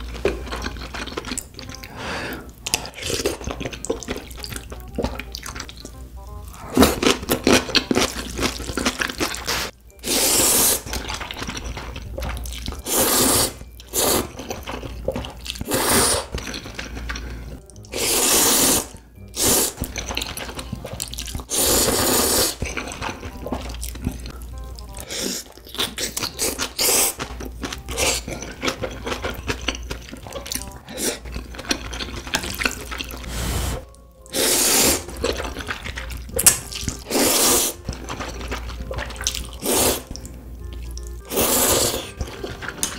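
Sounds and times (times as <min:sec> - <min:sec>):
wet chewing: 0:00.0 - 0:02.0, 0:02.6 - 0:42.9
noodles being slurped: 0:06.6 - 0:24.3, 0:24.9 - 0:40.3, 0:41.0 - 0:42.9.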